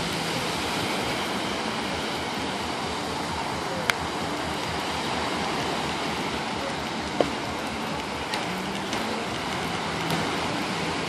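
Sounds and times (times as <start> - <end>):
waves breaking on sandy beach: 0.0 - 11.0.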